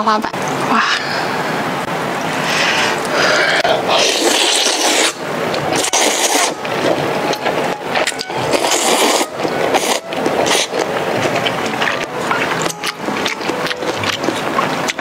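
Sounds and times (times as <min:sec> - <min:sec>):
slurping noodles: 0:02.2 - 0:15.0.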